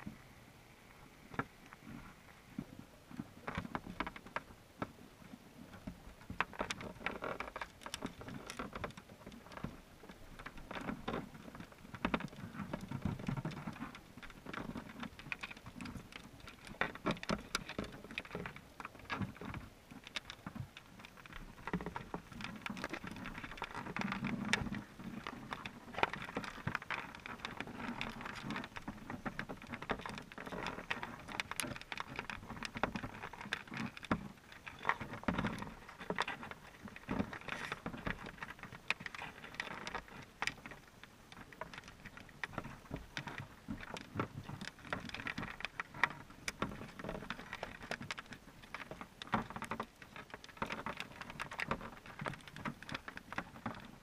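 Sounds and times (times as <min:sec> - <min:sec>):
muffled underwater water noise: 0:00.0 - 0:54.0
small irregular clicks: 0:00.0 - 0:54.0.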